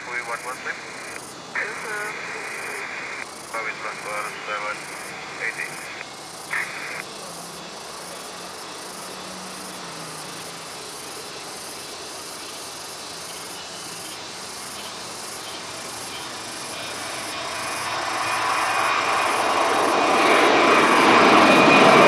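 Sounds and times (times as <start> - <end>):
constant hiss: 0.0 - 19.8
aircraft engine: 0.0 - 22.0
insects chirping: 0.0 - 22.0.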